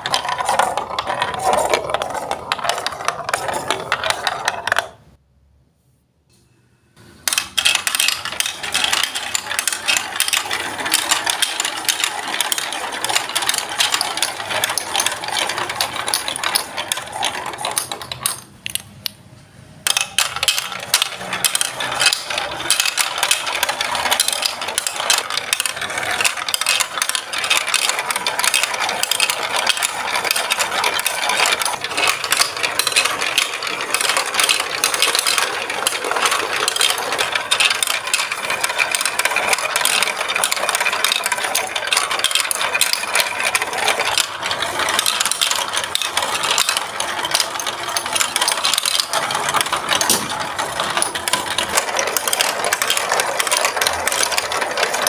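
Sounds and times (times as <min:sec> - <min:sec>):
plastic balls rattling down marble run: 0:00.0 - 0:05.1, 0:07.2 - 0:19.1, 0:19.8 - 0:55.0.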